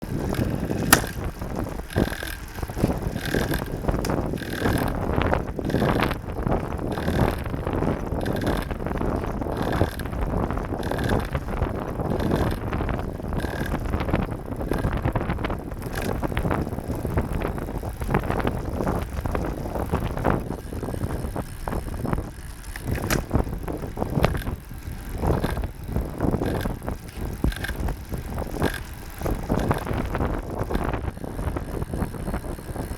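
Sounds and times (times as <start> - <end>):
bike drivetrain running: 0.0 - 32.9
drivetrain clicks: 0.0 - 32.9.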